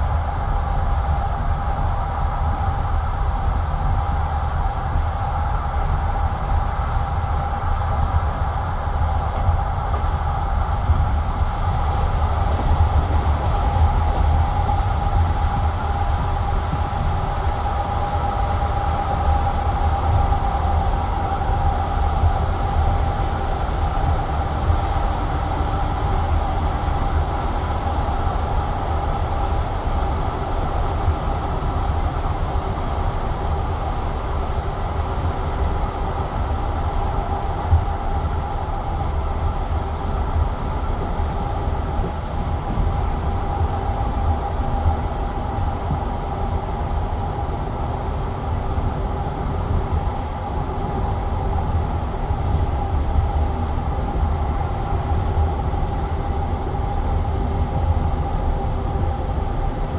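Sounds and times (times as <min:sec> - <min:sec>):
steady train hum: 0:00.0 - 0:59.9
train wheels rumbling on rails: 0:00.0 - 0:59.9.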